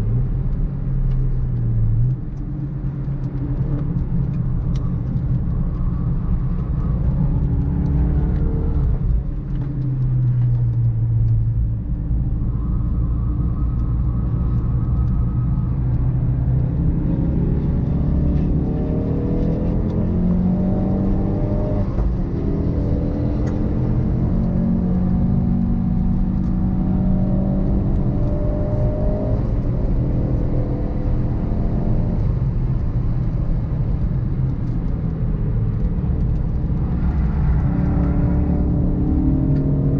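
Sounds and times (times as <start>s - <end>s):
car engine accelerating hard: 0.0s - 12.2s, 14.0s - 39.9s.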